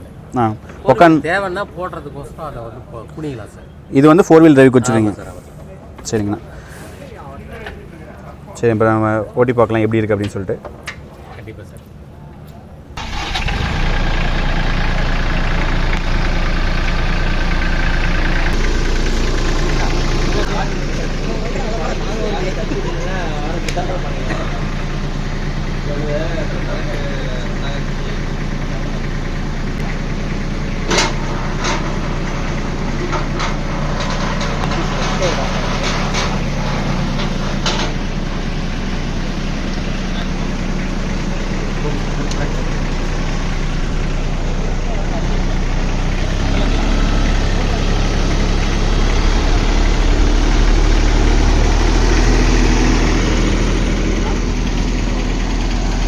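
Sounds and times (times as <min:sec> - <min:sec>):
tractor diesel engine running: 0:00.0 - 0:05.6, 0:11.9 - 0:56.0.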